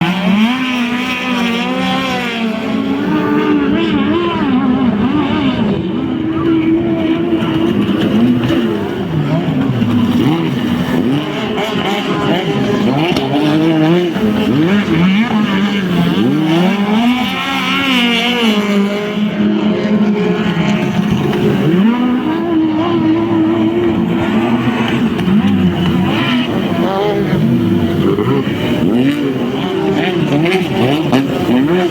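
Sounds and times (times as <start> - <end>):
racing powerboat engines: 0.0 - 31.9.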